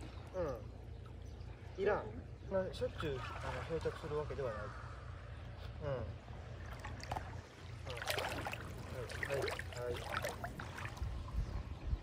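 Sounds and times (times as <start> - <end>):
seawater trickling at shoreline: 0.0 - 12.0.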